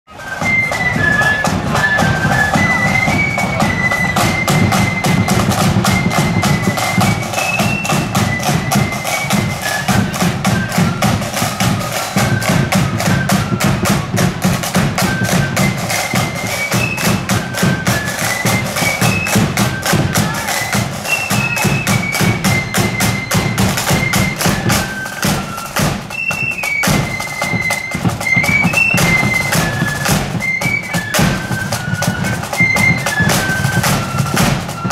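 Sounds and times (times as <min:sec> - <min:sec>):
flute melody: 0:00.1 - 0:34.9
side drums and bass drum: 0:00.7 - 0:34.9.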